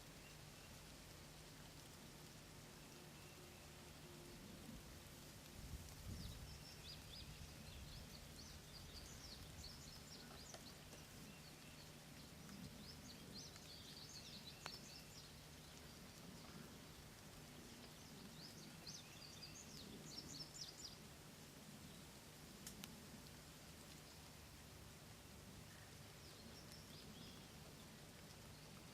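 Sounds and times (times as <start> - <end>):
low steady hum: 0.0 - 28.9
songbird chirping: 0.0 - 28.9.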